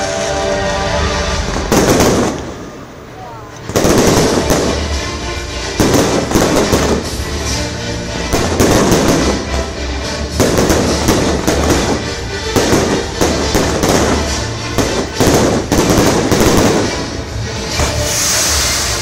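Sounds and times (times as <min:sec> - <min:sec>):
fireworks bursting: 0:01.3 - 0:03.0, 0:03.6 - 0:19.0.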